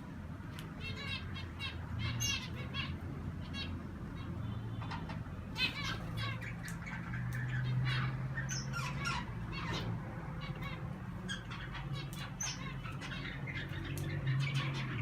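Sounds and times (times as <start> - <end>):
cage birds chirping and squawking: 0.0 - 15.0.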